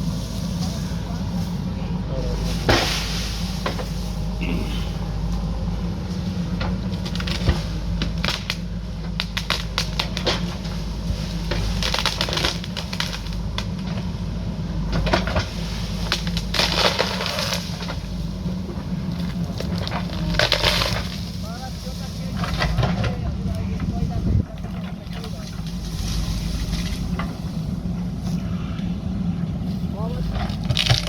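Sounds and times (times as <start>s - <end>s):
rock and soil crunching: 0.0s - 14.1s, 14.9s - 28.8s, 29.6s - 31.0s
diesel engine running: 0.0s - 31.0s.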